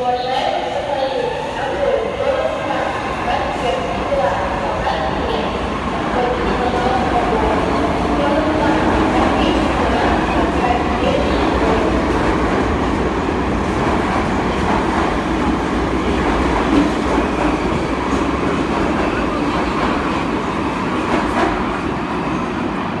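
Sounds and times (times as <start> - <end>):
metro train wheels on rail: 0.0 - 23.0.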